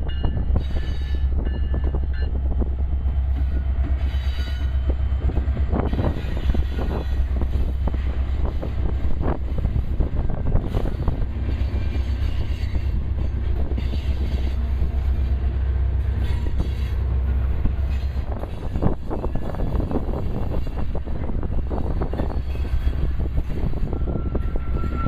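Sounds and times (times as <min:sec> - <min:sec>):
freight train cars clattering: 0:00.0 - 0:25.0
wind rumble on microphone: 0:00.0 - 0:25.0.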